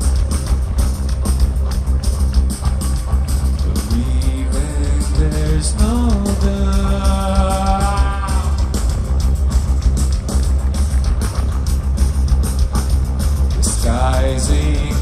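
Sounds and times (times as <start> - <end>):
heavy rock band playing: 0.0 - 15.0.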